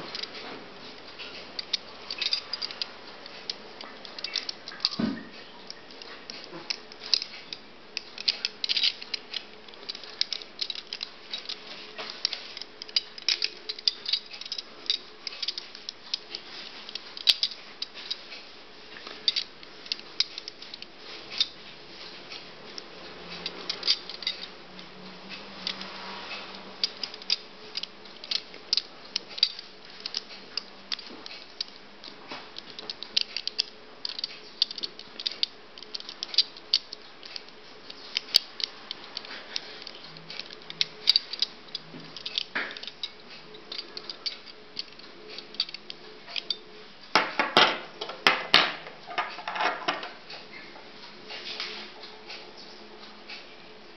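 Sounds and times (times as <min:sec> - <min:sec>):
metal puzzle pieces clinking: 0:01.2 - 0:05.0, 0:05.6 - 0:18.4, 0:19.0 - 0:21.6, 0:23.7 - 0:24.5, 0:26.8 - 0:50.2.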